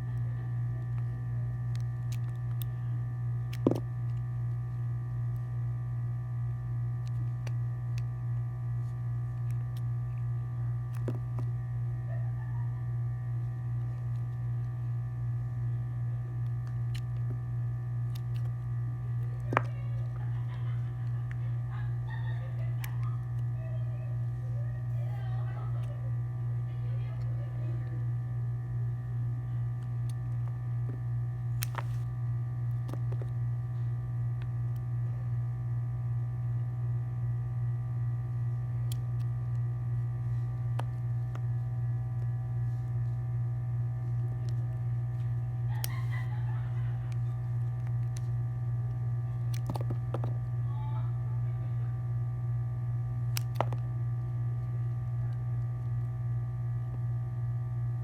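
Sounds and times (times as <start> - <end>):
low hum with fast flutter: 0.0 - 58.0.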